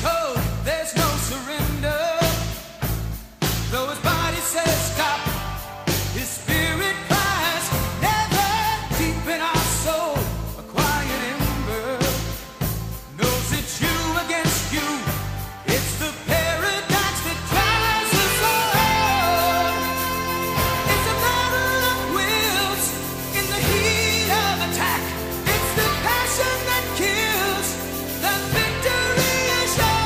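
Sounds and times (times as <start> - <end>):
song with vocal and heavy bass beat: 3.4 - 30.0.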